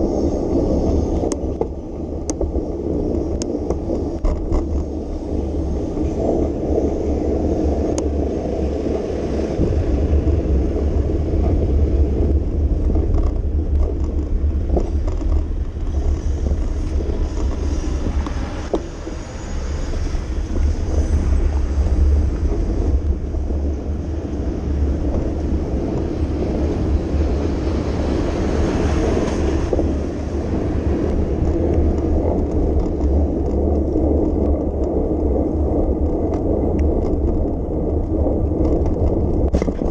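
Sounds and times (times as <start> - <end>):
bicycle rolling over pavement: 0.0 - 39.9
wind on microphone: 0.0 - 39.9.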